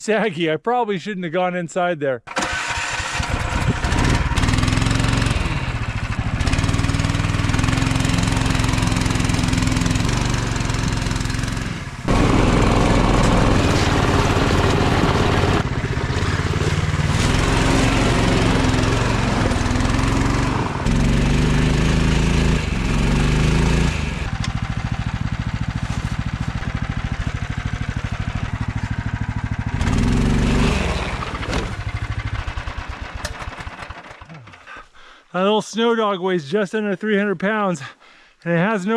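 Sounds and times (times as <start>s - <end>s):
motorized sled engine running: 2.3s - 34.8s.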